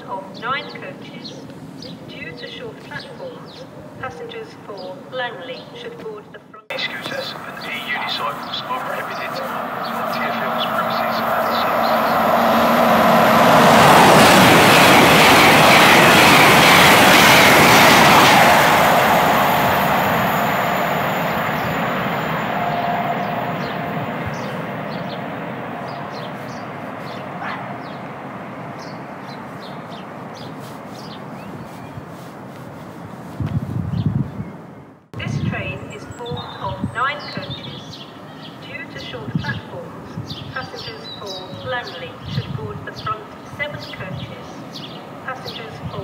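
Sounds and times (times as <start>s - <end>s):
train passing rumble: 6.7s - 46.0s.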